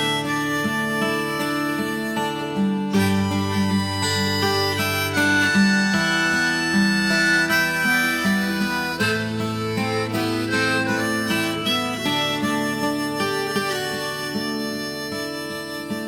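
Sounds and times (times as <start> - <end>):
acoustic guitar: 0.0 - 16.0
harmonica melody: 0.0 - 16.0.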